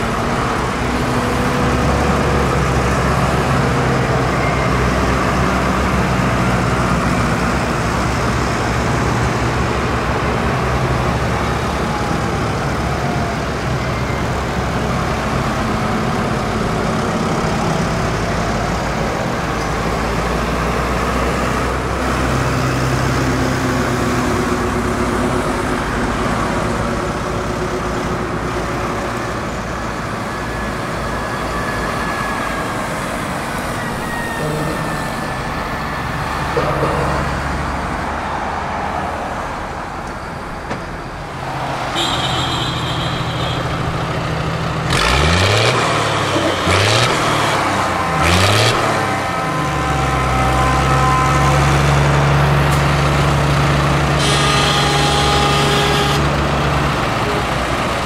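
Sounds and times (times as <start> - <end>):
tractor diesel engines droning: 0.0 - 58.0.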